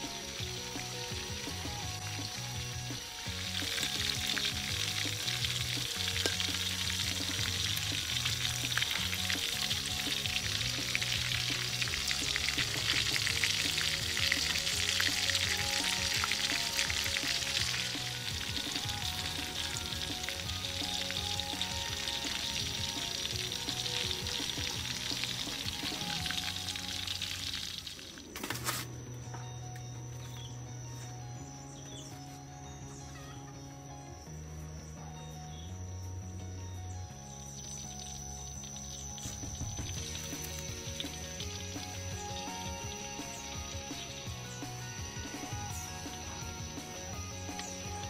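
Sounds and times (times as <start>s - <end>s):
oil sizzling and crackling: 0.0s - 29.0s, 37.4s - 48.0s
background music: 0.0s - 48.0s.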